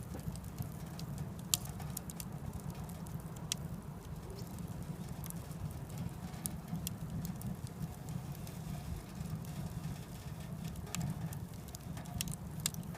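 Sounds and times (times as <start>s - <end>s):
wood fire crackling: 0.0s - 12.9s.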